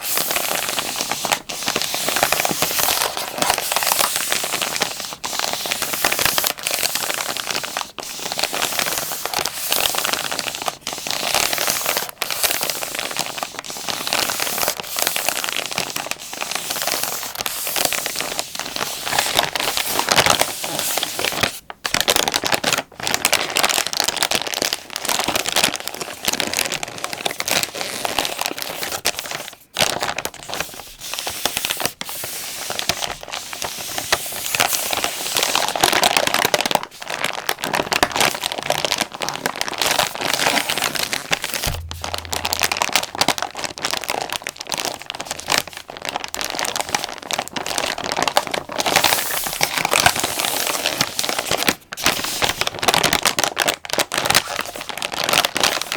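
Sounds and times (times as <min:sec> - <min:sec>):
plastic pack crinkling: 0:00.0 - 0:31.9, 0:32.6 - 0:55.9.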